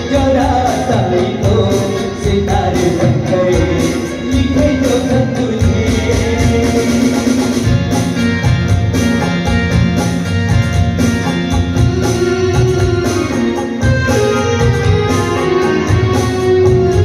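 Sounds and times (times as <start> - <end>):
dholak drum beat: 0.0 - 17.0
electronic keyboard: 0.0 - 17.0
harmonium: 0.0 - 17.0.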